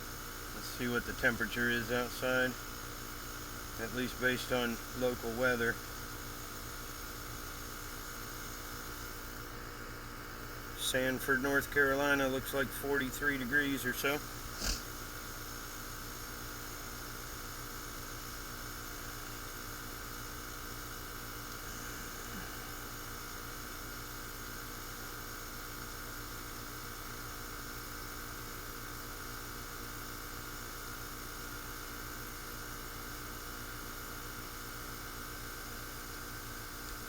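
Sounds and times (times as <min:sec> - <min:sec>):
heat pump humming: 0:00.0 - 0:37.0.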